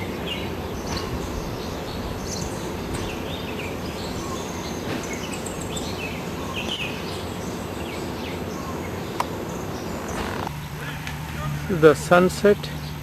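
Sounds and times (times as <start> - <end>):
low background rush: 0.0 - 13.0
small birds chirping: 0.0 - 13.0.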